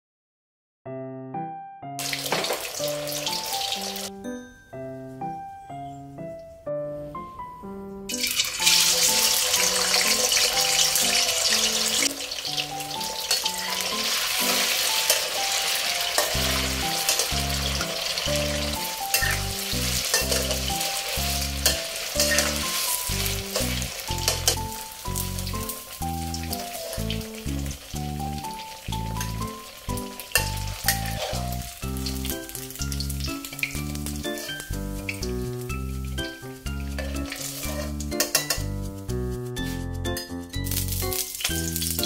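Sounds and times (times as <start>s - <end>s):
light background music: 1.4s - 42.0s
food sizzling in hot oil: 2.0s - 4.1s, 8.1s - 42.0s.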